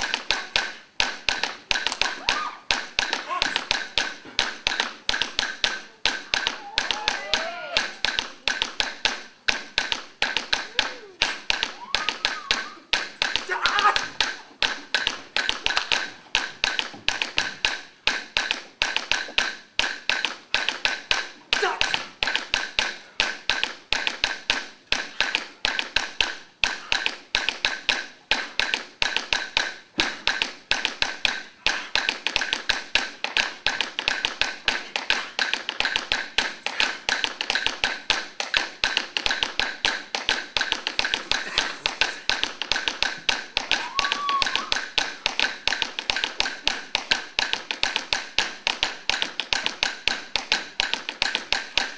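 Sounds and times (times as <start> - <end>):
fast percussion taps and clicks: 0.0 - 51.9.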